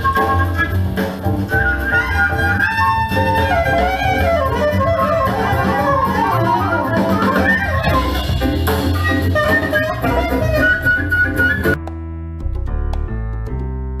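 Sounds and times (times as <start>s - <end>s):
instrumental jazz over loudspeakers: 0.0s - 14.0s.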